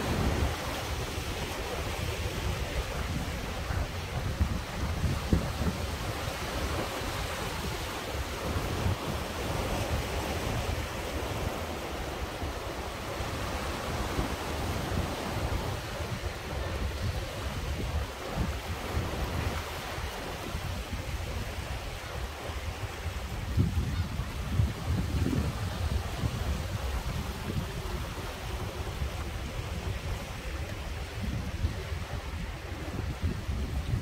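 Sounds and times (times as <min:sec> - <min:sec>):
sea surf washing around rocks: 0:00.0 - 0:34.0
wind buffeting microphone: 0:00.0 - 0:34.0.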